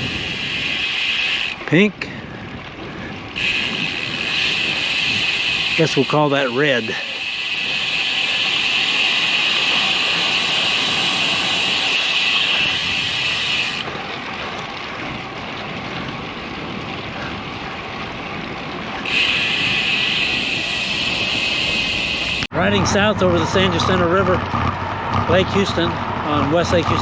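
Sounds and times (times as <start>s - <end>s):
road noise: 0.0s - 27.0s
wind rushing over microphone: 0.0s - 27.0s.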